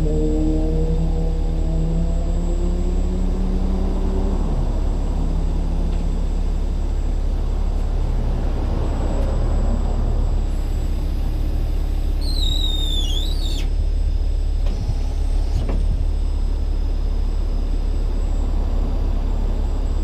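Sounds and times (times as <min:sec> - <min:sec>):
diesel truck engine rumbling: 0:02.8 - 0:20.0.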